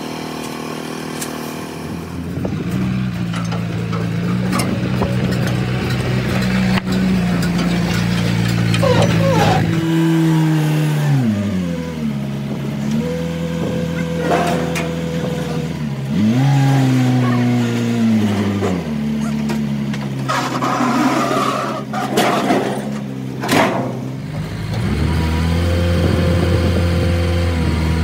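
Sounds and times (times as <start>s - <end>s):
truck diesel engine revving: 0.0s - 28.0s.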